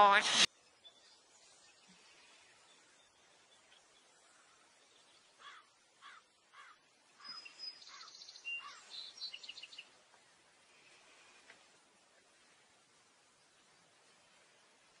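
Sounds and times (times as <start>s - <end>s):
faint birdsong: 0.5s - 15.0s.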